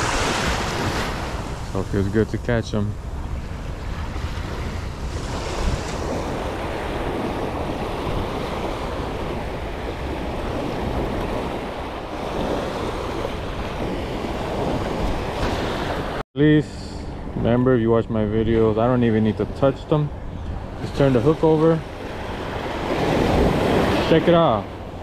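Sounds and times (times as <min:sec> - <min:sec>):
small waves breaking: 0:00.0 - 0:16.2, 0:20.1 - 0:25.0
wind buffeting microphone: 0:00.0 - 0:25.0.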